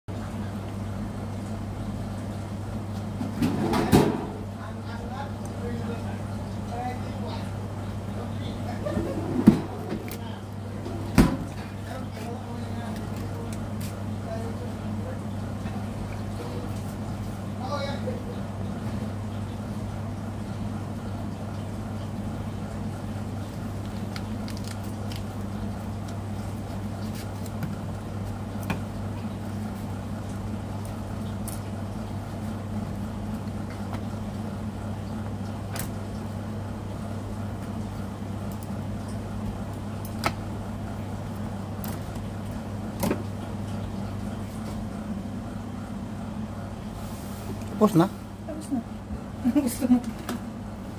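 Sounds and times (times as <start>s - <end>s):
low machine hum: 0.1s - 50.9s.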